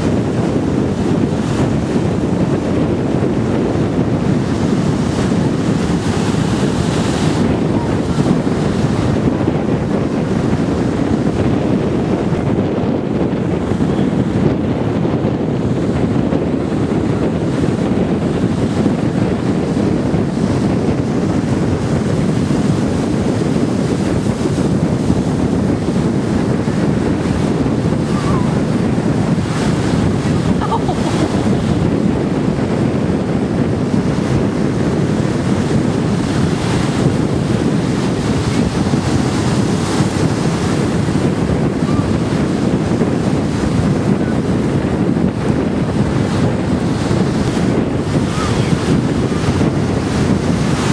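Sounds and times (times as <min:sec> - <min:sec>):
ocean surf breaking: 0:00.0 - 0:50.9
wind buffeting microphone: 0:00.0 - 0:50.9.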